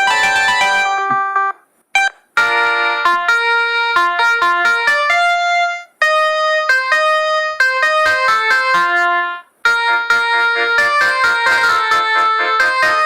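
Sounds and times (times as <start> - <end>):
mobile phone ringtone melody: 0.0 - 13.0.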